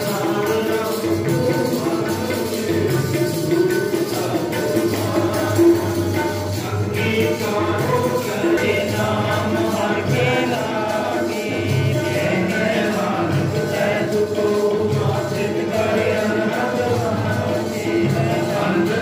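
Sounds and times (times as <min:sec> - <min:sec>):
devotional hymn singing: 0:00.0 - 0:19.0
instrumental accompaniment: 0:00.0 - 0:19.0.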